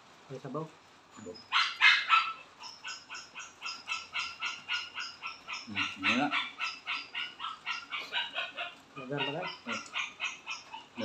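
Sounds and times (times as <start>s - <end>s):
frogs croaking: 1.4s - 11.0s.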